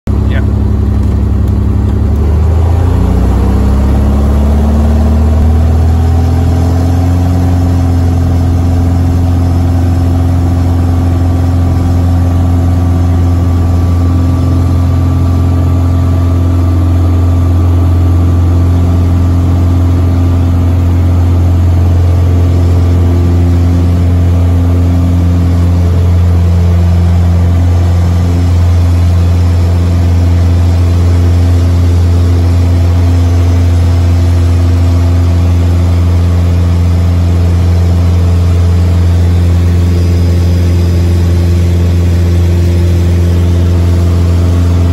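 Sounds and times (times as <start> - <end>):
light aircraft engine and propeller: 0.1 - 44.9.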